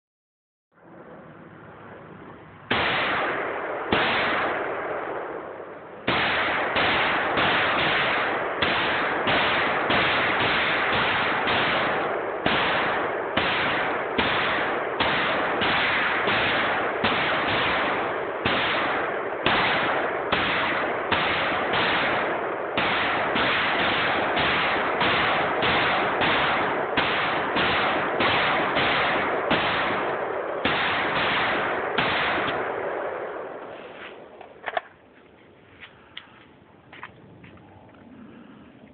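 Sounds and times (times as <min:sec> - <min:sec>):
rifle shots with echo: 0:02.7 - 0:34.9.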